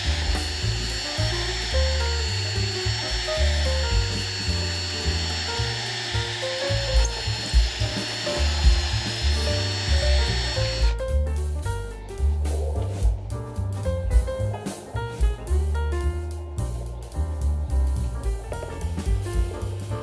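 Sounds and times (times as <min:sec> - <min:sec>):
high whine and hiss: 0:00.0 - 0:20.0
music with bass beat: 0:00.0 - 0:20.0.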